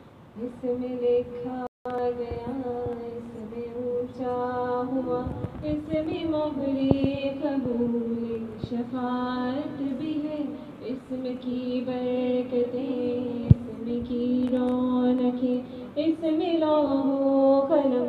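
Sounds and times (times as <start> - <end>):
woman singing unaccompanied: 0.4 - 18.0.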